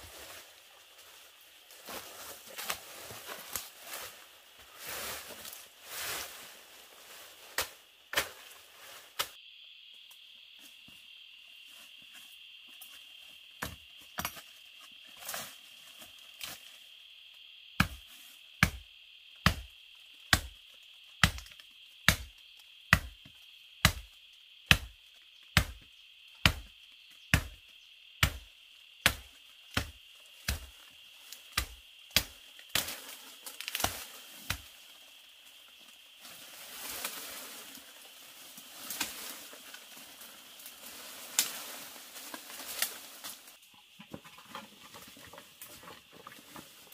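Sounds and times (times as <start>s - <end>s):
insects chirring: 0.0s - 46.9s.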